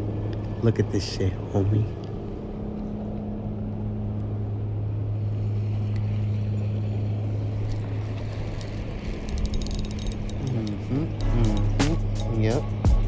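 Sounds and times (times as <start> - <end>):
boat motor humming: 0.0 - 2.4, 3.2 - 13.0.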